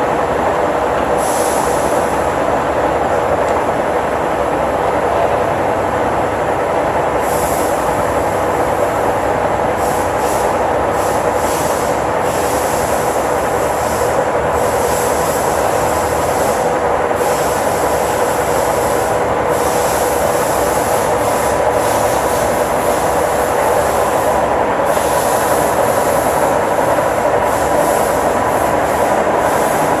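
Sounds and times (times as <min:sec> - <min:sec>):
lathe whining and rumbling: 0:00.0 - 0:30.0.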